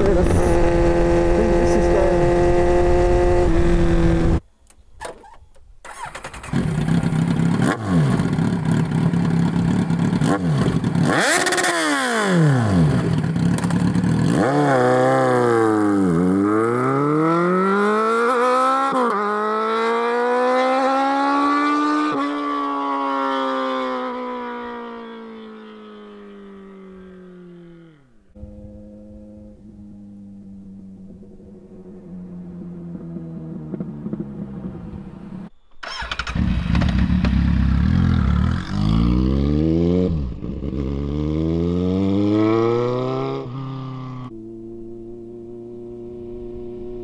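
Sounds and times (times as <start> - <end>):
motorcycle engine revving and accelerating: 0.0 - 4.4, 6.0 - 47.0.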